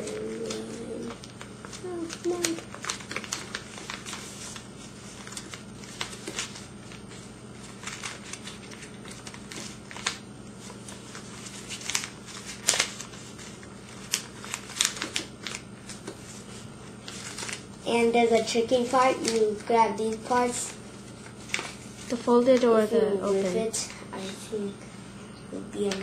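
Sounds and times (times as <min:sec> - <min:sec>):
paper rustling and crinkling: 0:00.0 - 0:24.6, 0:25.8 - 0:26.0
steady low hum: 0:00.0 - 0:26.0.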